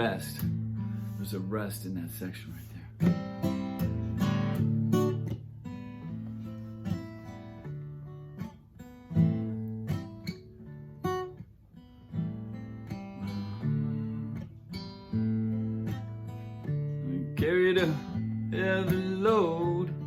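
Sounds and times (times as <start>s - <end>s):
acoustic guitar strummed and picked: 0.0s - 20.0s.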